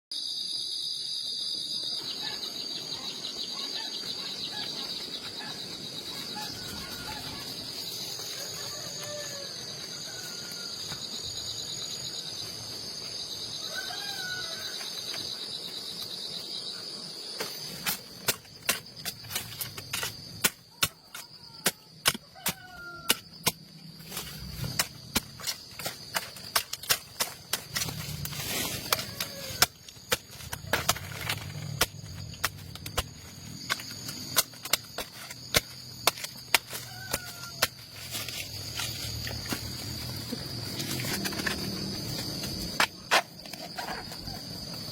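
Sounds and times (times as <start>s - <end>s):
insects trilling: 0.2s - 44.9s.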